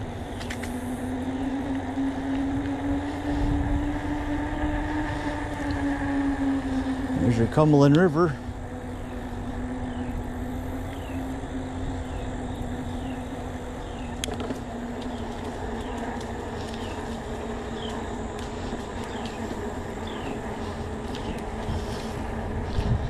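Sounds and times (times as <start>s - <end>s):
electric bike motor humming: 0.0s - 23.0s
wind and tyre rumble: 0.0s - 23.0s.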